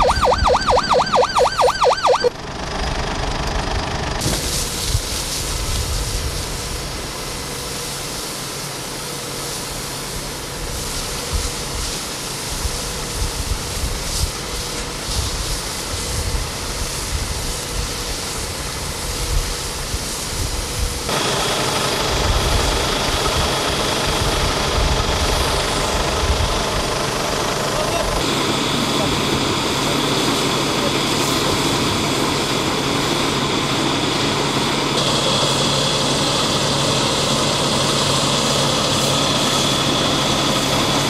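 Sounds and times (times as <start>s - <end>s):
fire truck engine running: 0.0s - 41.0s.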